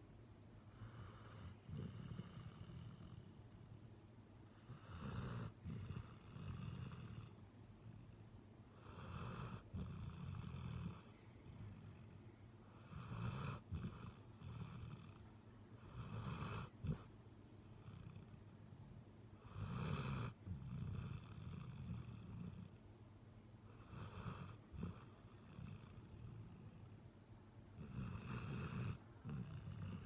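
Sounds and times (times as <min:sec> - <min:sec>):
dog snoring: 0:00.7 - 0:03.8, 0:04.5 - 0:18.5, 0:19.4 - 0:22.8, 0:23.7 - 0:27.0, 0:27.8 - 0:30.0.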